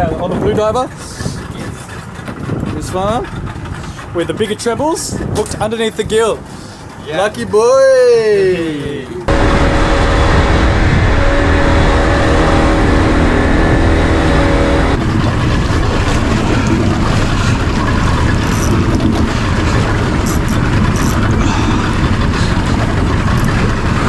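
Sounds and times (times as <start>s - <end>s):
boat engine running: 0.0s - 7.0s, 9.0s - 24.0s
rushing wind and water: 0.0s - 24.0s.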